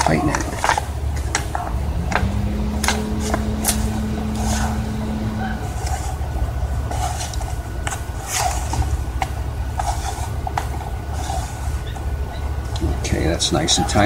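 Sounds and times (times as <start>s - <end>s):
steady low rumble: 0.6s - 14.0s.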